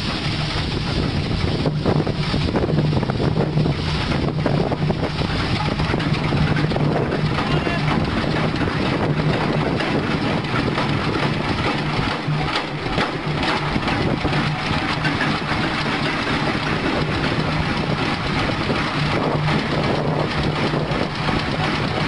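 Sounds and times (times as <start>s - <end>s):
stationary engine running: 0.0s - 22.0s.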